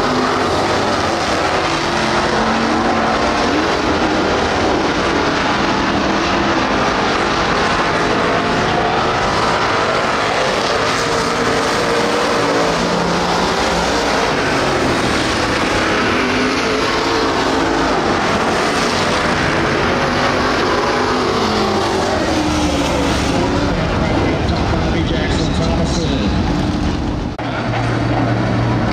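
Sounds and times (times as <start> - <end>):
race car engines running hard: 0.0 - 28.9.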